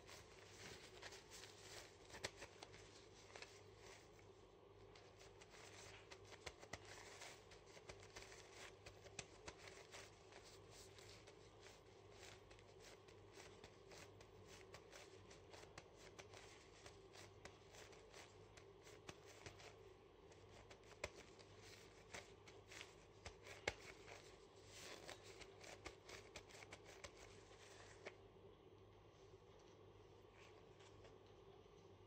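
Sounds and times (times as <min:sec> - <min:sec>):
plastic glove crinkling: 0:00.0 - 0:28.2
small clicks and rustles: 0:00.0 - 0:28.2
low steady hum: 0:00.0 - 0:32.0.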